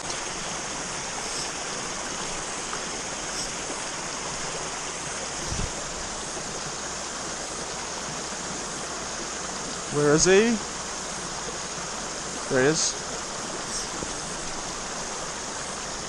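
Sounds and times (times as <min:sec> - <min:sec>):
cicadas chorus: 0:00.0 - 0:16.0
stream running over rocks: 0:00.0 - 0:16.0.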